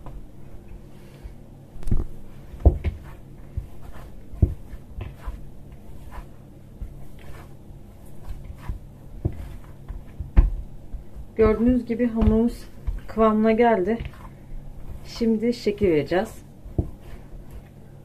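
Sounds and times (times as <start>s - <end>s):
hands kneading dough: 0.0s - 18.0s.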